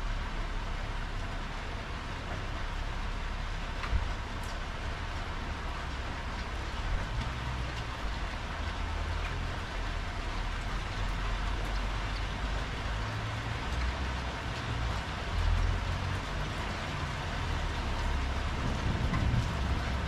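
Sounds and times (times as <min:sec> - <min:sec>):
low uneven rumble: 0:00.0 - 0:20.0
rain on tiled patio: 0:00.0 - 0:20.0.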